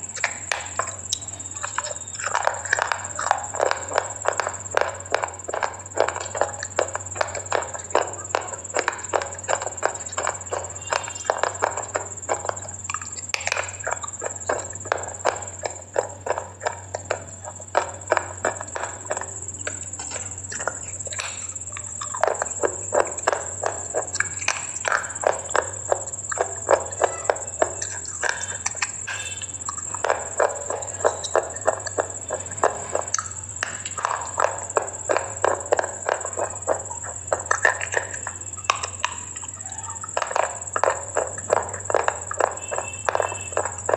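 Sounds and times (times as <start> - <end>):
crunchy food being chewed: 0.0 - 43.9.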